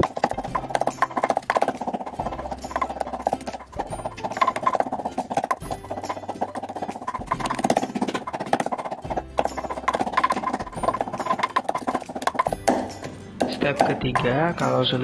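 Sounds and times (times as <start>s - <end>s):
wooden pestle pounding in mortar: 0.0s - 15.0s.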